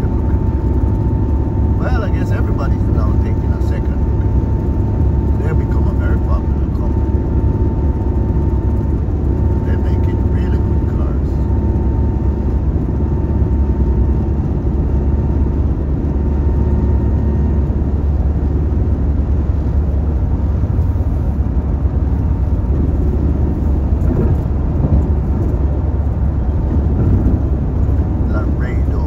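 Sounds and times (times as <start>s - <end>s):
road and engine rumble: 0.0s - 29.0s.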